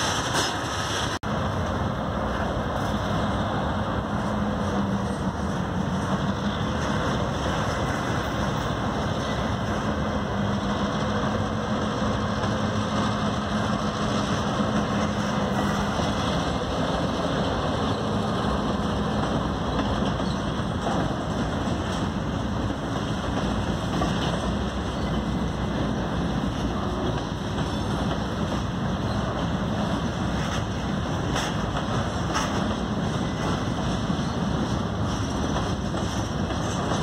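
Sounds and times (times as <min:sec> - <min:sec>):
freight train rumbling on rails: 0:00.0 - 0:37.0.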